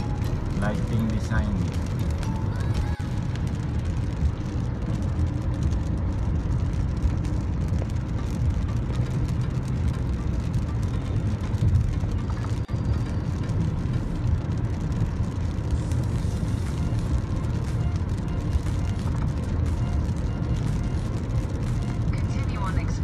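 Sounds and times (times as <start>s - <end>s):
car rumble on wet road: 0.0s - 23.0s.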